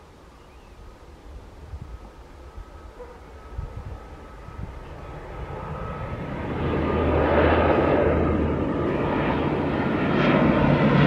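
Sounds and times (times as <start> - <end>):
turboprop airliner passing overhead: 0.0 - 11.0.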